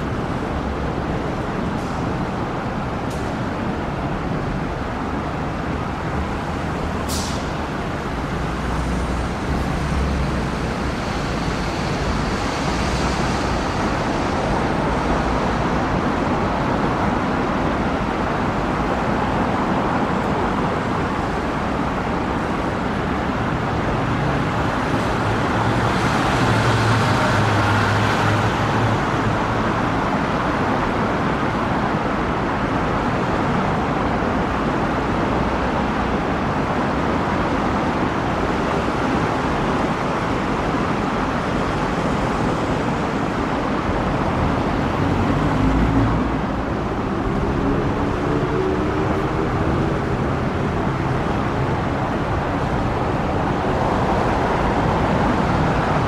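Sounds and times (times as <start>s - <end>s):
road traffic noise: 0.0s - 56.0s
vehicle engine hum: 0.0s - 56.0s.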